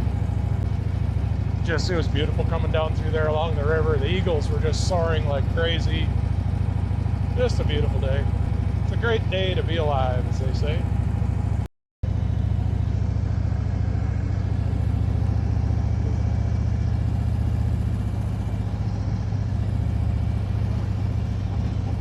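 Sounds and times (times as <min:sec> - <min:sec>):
motorcycle engine rumble: 0:00.0 - 0:22.0
road and air noise: 0:00.0 - 0:22.0.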